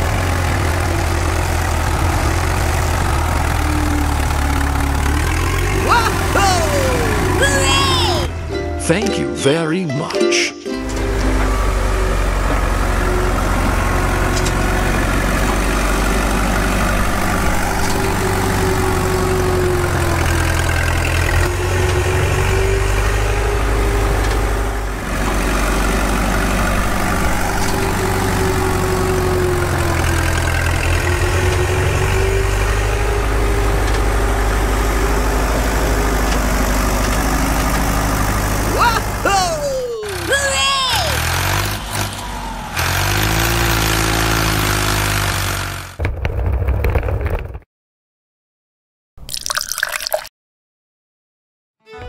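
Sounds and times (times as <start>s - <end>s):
truck engine idling: 0.0s - 9.0s, 10.7s - 46.0s.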